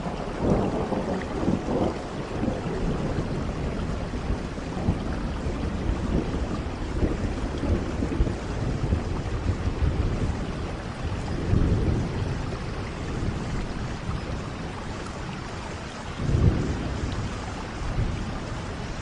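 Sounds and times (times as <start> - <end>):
low rolls of thunder: 0.0 - 19.0
steady rain: 0.0 - 19.0.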